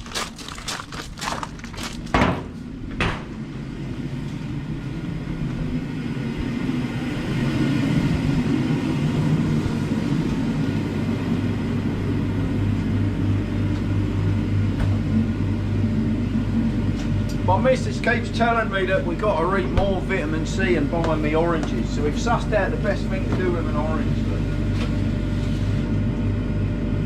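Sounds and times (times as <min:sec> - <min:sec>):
low motor rumble: 0:00.0 - 0:27.0.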